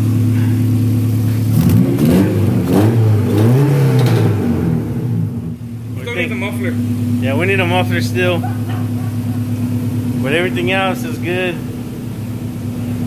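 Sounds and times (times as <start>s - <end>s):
unmuffled car engine revving: 0.0s - 13.0s.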